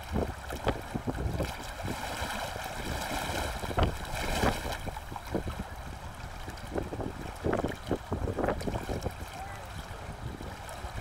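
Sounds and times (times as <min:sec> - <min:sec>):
choppy water: 0:00.0 - 0:11.0
wind buffeting microphone: 0:00.0 - 0:11.0.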